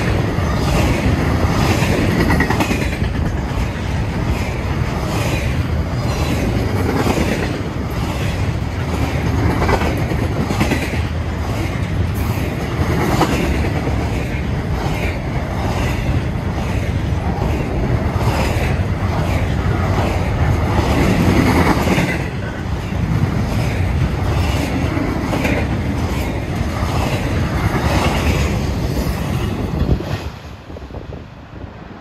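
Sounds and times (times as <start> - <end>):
clickety-clack over rail joints: 0.0 - 31.3
train wheels rumbling on rails: 0.0 - 32.0.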